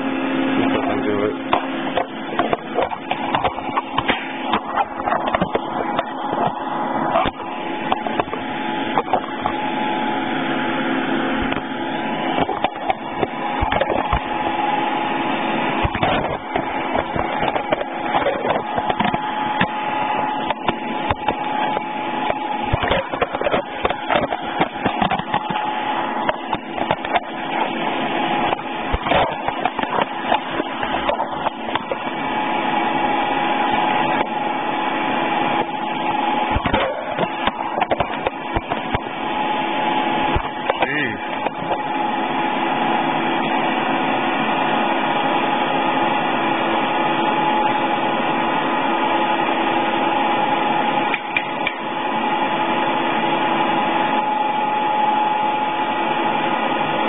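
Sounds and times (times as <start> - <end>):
milling machine hum and whine: 0.0 - 57.0.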